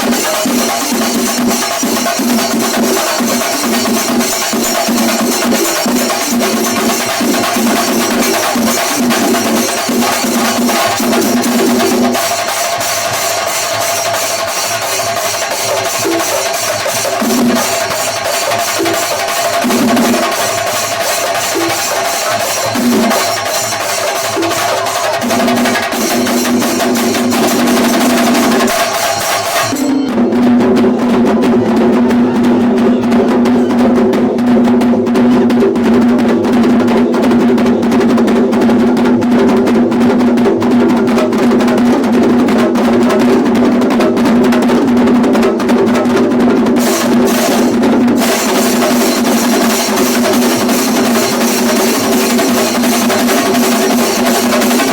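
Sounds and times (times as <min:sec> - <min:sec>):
cymbals: 0:00.0 - 0:38.9, 0:46.7 - 0:54.9
drums beaten in fast rhythm: 0:00.0 - 0:54.9.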